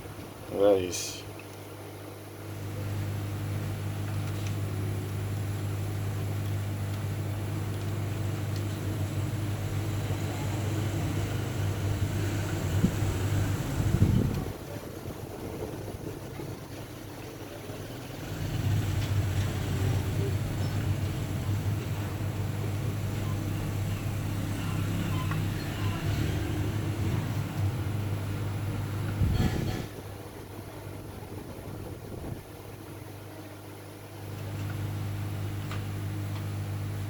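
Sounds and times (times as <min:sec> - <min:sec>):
low engine hum: 0:03.2 - 0:33.4.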